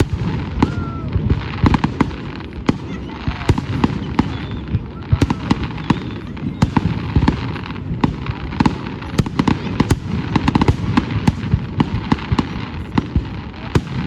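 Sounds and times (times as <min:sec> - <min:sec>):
fireworks bangs: 0:00.0 - 0:14.0
fireworks rumble and crackle: 0:00.0 - 0:14.0.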